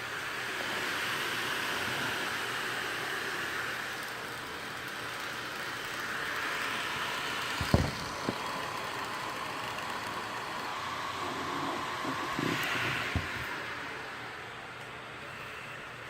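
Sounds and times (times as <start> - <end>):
laptop cooling fans whooshing: 0.0 - 16.0.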